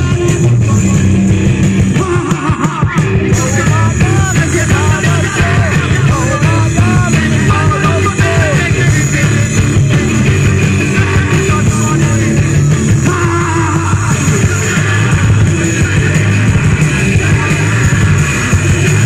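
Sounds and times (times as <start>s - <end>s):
person singing or yelling: 0.0s - 1.3s, 1.9s - 9.8s, 10.7s - 19.0s
live rock band playing: 0.0s - 19.0s.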